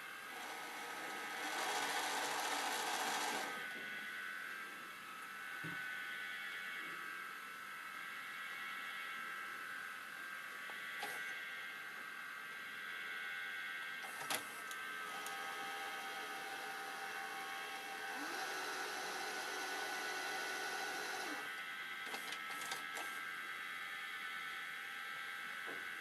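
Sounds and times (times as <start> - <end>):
tape motor whine: 0.0 - 26.0.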